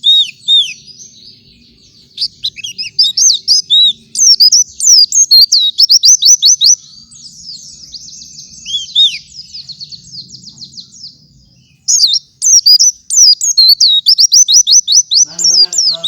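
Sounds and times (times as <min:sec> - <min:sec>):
bird chirping song: 0:00.0 - 0:16.0.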